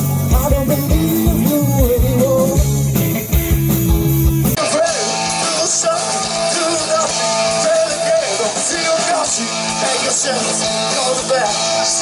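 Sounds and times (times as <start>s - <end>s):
rock band with singer: 0.0s - 12.0s.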